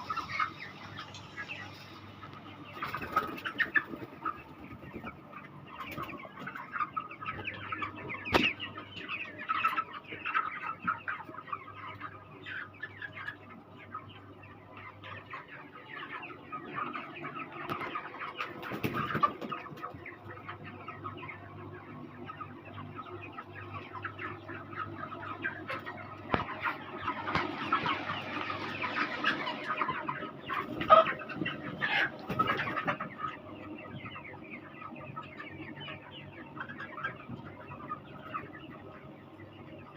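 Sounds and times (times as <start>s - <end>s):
chickens peeping and clucking: 0.0s - 39.9s.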